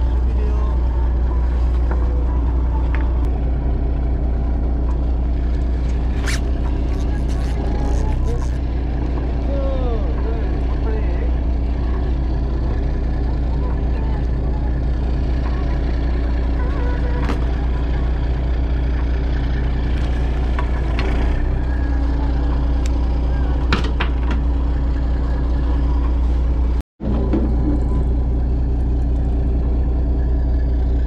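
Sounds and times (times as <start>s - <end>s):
boat engine drone: 0.0s - 31.0s.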